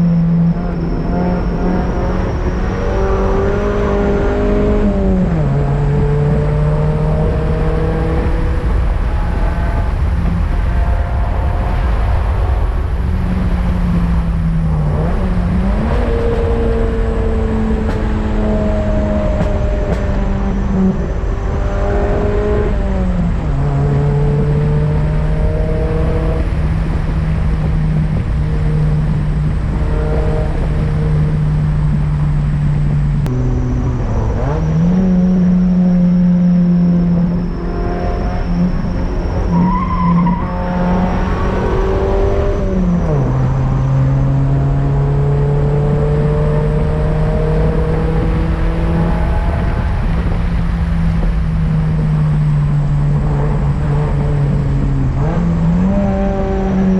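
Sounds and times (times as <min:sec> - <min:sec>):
car engine pulling while driving: 0:00.0 - 0:56.9.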